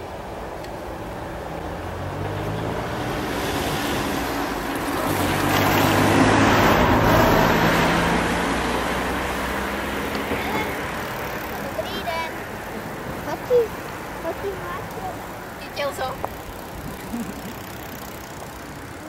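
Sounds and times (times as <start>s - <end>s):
car engine hum: 0.0s - 19.0s
tyre noise on road: 0.0s - 19.0s.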